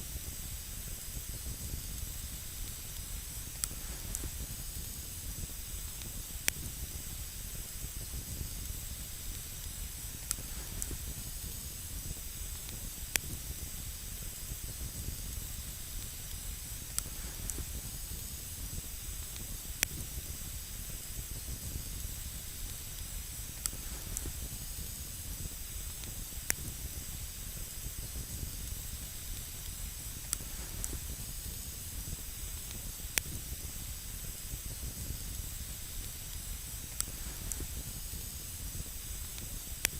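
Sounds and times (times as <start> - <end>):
campfire hissing and rumbling: 0.0 - 39.9
fire crackles: 0.0 - 39.9.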